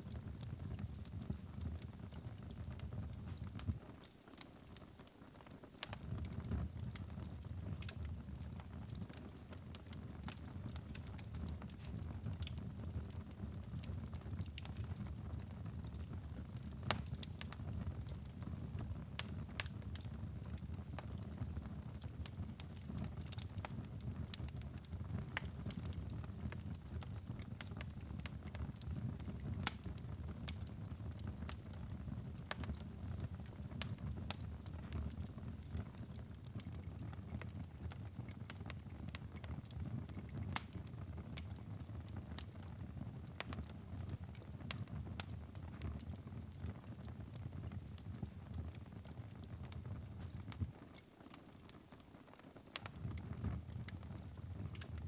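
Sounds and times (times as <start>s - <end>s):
wood fire crackles and pops: 0.0s - 55.0s
low rumble of flames: 5.8s - 50.8s, 52.8s - 55.0s.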